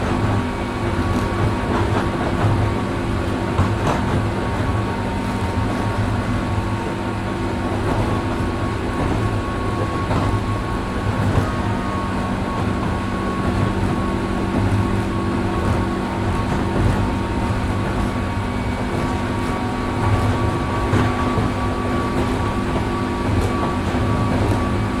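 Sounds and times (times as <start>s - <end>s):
electric train whine: 0.0s - 25.0s
wheels rumbling on track: 0.0s - 25.0s.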